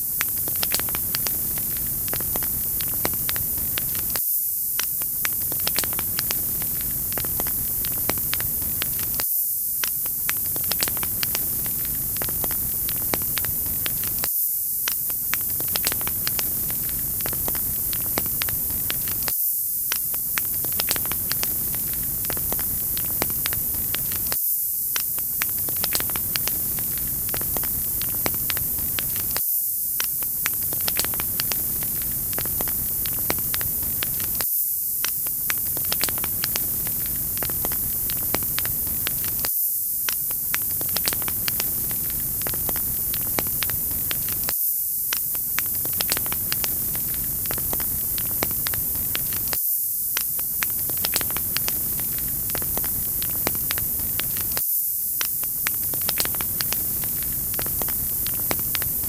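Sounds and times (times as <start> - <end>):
wood fire crackling and popping: 0.0 - 4.2, 4.8 - 59.0.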